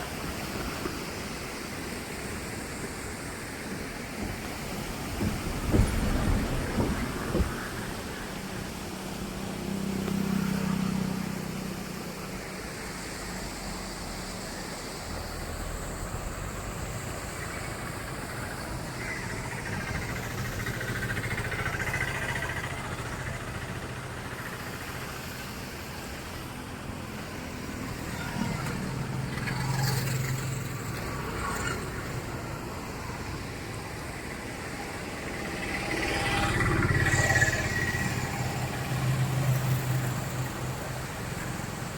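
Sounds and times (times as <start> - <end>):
vehicle engine and road rumble: 0.0 - 41.9.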